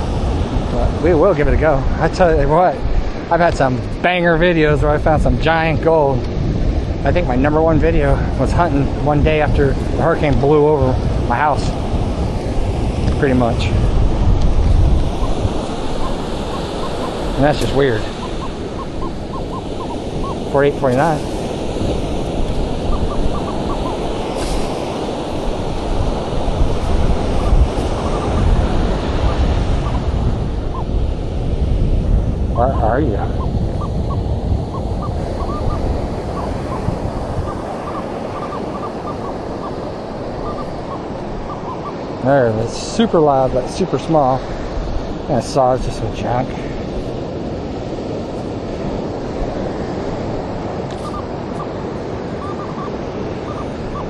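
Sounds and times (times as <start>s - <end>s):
surf breaking on beach: 0.0s - 54.0s
wind rumbling on microphone: 0.0s - 54.0s.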